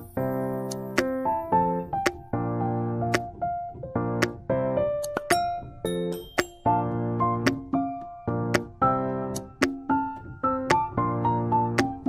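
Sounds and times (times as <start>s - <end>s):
keyboard playing chords: 0.0s - 12.0s.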